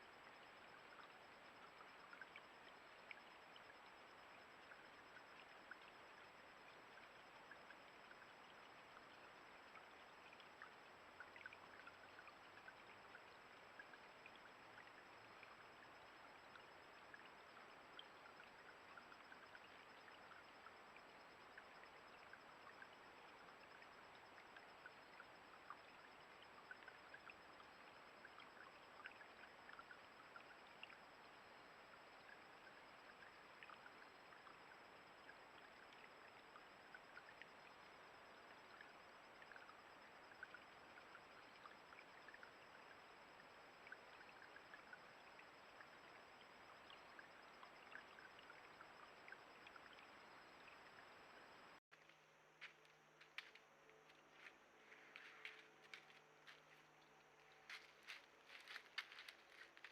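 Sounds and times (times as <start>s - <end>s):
creek water trickling: 0.0s - 59.9s.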